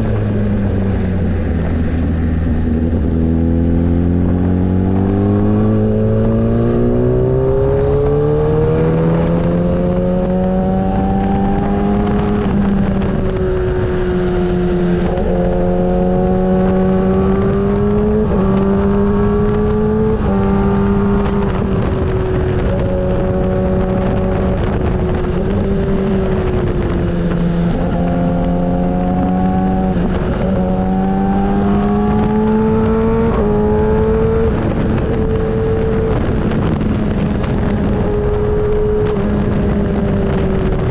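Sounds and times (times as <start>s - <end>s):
motorcycle engine accelerating: 0.0s - 40.9s
wind rushing: 0.0s - 40.9s.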